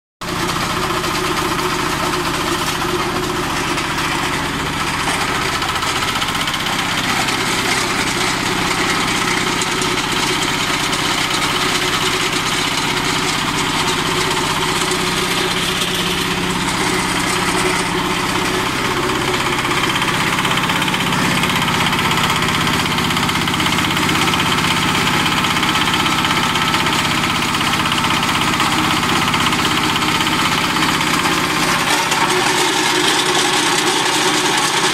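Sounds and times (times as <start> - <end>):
small engine running: 0.2 - 34.9.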